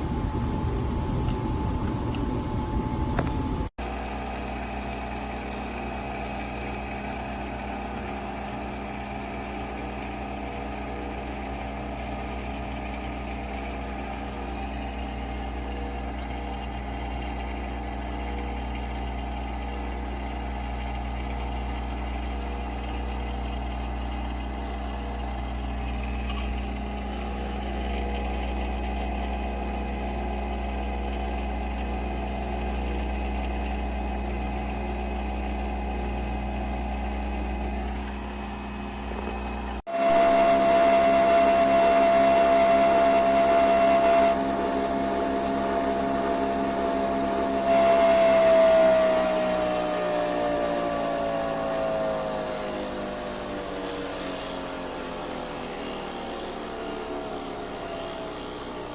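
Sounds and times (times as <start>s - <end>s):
coffee machine high whine: 0.0s - 58.9s
coffee machine humming: 0.0s - 58.9s.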